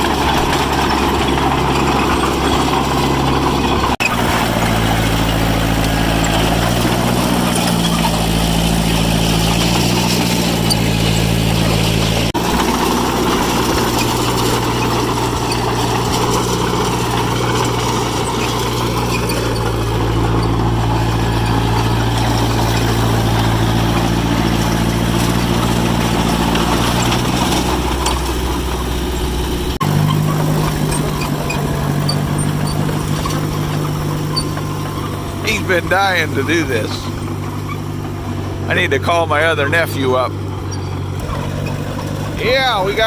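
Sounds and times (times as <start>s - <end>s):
crawler engine running: 0.0s - 43.0s.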